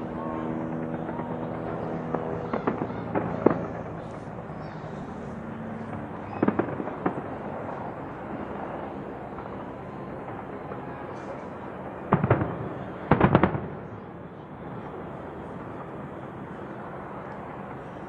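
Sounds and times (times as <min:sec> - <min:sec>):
distant fireworks bangs: 0:00.9 - 0:08.4, 0:09.3 - 0:17.9.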